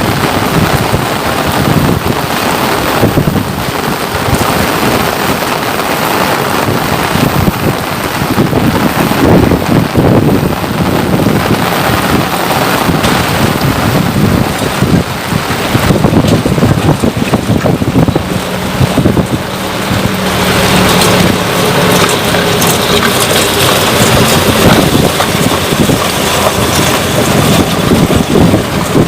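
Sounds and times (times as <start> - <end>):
low rumble: 0.0 - 29.0
steady rain falling: 0.0 - 29.0.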